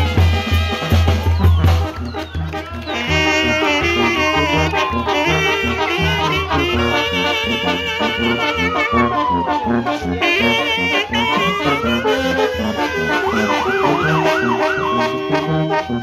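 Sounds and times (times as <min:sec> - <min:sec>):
brass band playing dance music: 0:00.0 - 0:16.0
siren wailing: 0:01.0 - 0:16.0.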